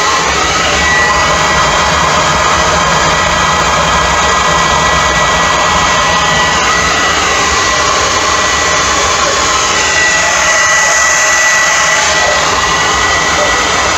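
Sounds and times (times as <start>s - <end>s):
forge blower rushing air and fire: 0.0s - 13.9s.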